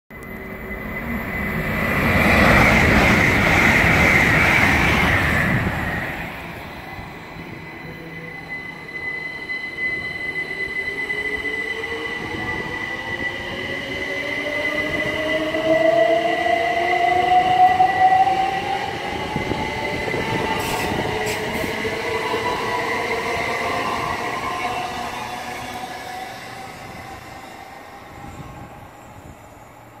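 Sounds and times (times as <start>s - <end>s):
train passing at speed: 0.1s - 30.0s.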